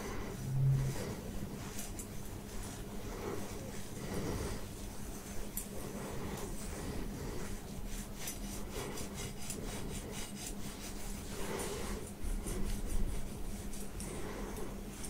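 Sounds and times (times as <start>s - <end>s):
wire massager scratching scalp: 0.0s - 15.0s.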